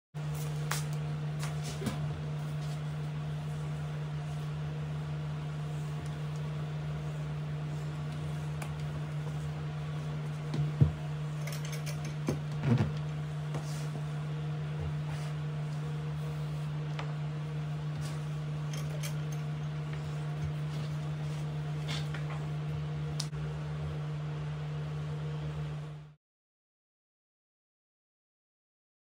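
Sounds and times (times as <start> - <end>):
low room hum: 0.2 - 26.2.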